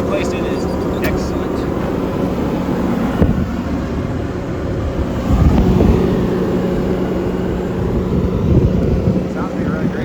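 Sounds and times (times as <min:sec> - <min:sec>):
diesel engine idling: 0:00.0 - 0:10.0
wind buffeting microphone: 0:00.0 - 0:10.0.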